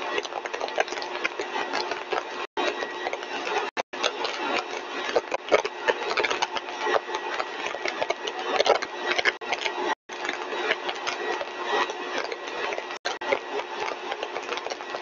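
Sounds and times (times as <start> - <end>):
dense crackle: 0.0 - 15.0.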